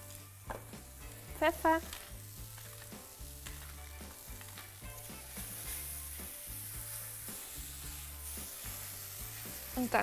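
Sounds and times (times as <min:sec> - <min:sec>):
mushrooms sizzling in a pan: 0:00.0 - 0:10.0
soft background music: 0:00.0 - 0:10.0.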